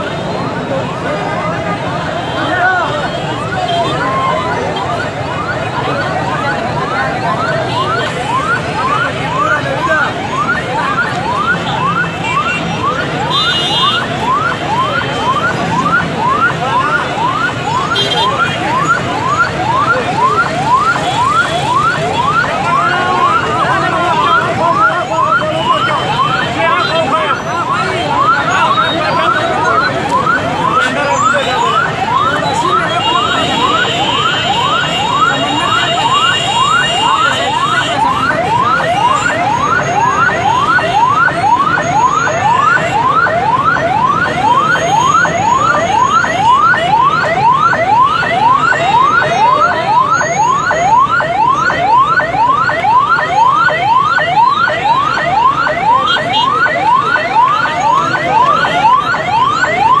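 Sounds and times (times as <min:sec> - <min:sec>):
electronic siren yelping: 0:00.0 - 1:00.0
large crowd noise: 0:00.0 - 1:00.0.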